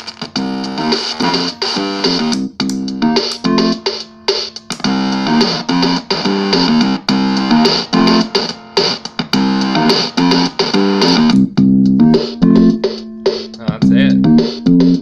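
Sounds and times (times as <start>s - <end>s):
buzzy synth riff: 0.0s - 15.0s.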